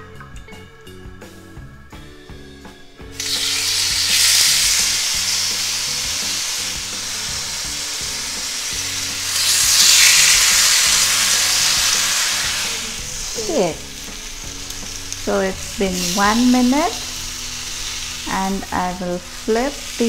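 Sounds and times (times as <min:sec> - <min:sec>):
meat sizzling on a grill pan: 0:03.1 - 0:20.0.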